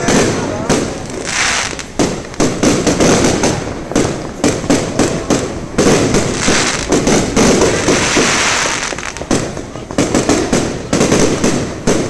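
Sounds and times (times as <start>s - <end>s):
fireworks bangs: 0.0s - 12.0s
fireworks hissing and crackling: 0.0s - 12.0s.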